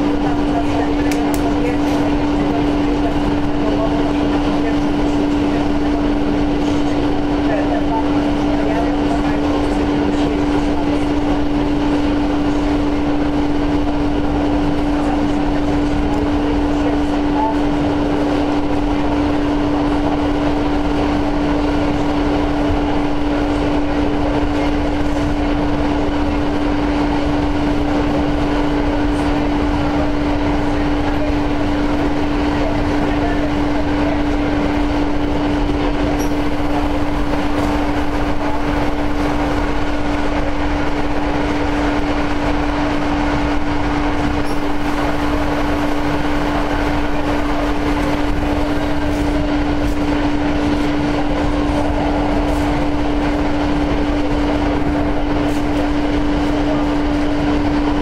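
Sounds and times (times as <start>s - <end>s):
mid-pitched hum: 0.0s - 58.0s
wheels rumbling on rail: 0.0s - 58.0s.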